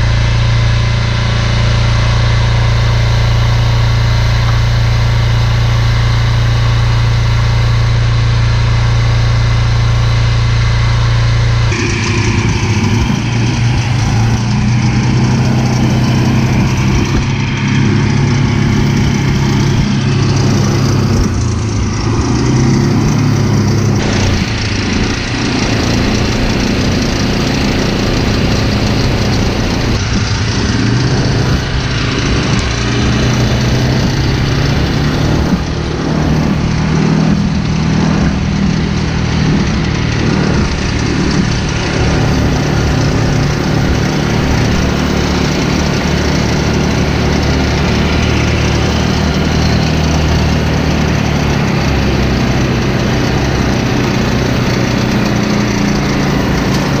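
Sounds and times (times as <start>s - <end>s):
brush mower engine cutting grass: 1.7s - 57.0s.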